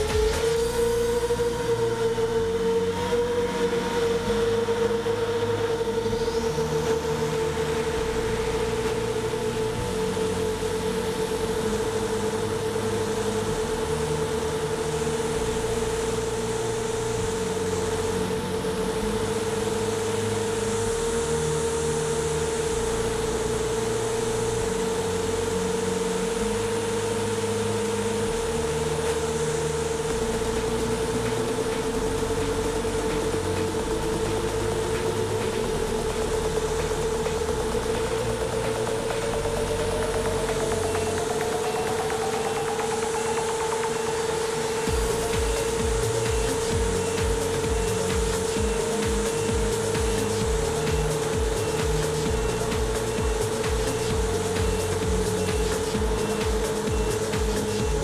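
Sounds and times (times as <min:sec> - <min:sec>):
quadcopter motors whining: 0:00.0 - 0:58.0
rising tone: 0:00.0 - 0:58.0.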